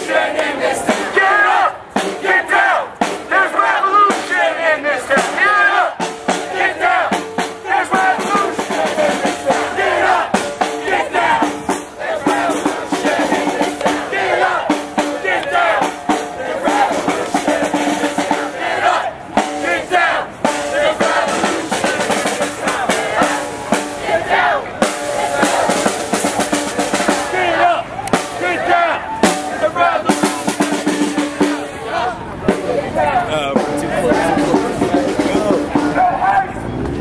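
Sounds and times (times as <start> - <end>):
crowd chanting and shouting: 0.0 - 37.0
drumming: 0.0 - 37.0.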